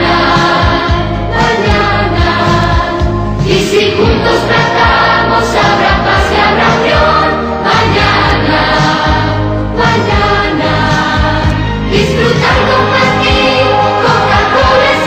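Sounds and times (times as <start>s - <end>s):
choir singing long notes: 0.0s - 15.0s
instrumental backing with steady beat: 0.0s - 15.0s.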